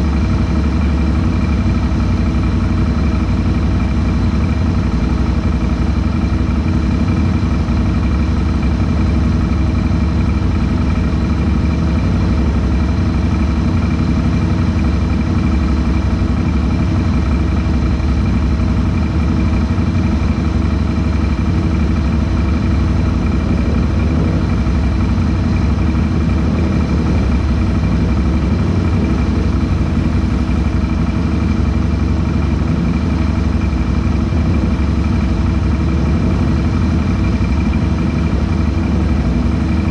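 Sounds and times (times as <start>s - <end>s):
atv engine idling: 0.0s - 39.9s.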